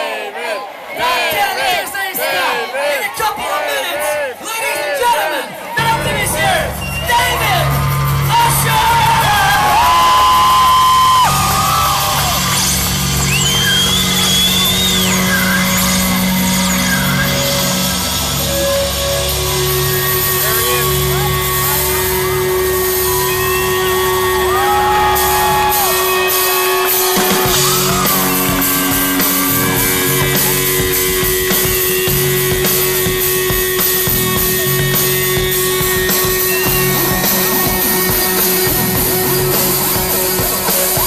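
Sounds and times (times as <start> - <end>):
crowd whooping and shouting: 0.3 - 41.0
held keyboard note: 5.8 - 41.0
pulsing bass beat: 5.8 - 41.0
rock band playing: 5.8 - 41.0.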